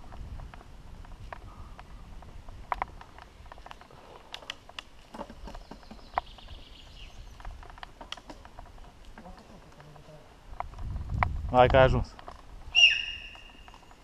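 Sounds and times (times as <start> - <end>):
bike clicks and rattles: 0.0 - 14.0.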